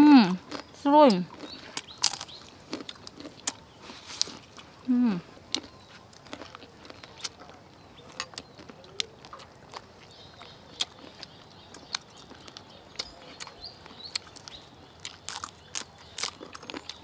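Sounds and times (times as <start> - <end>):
crunchy chewing: 0.2 - 17.0.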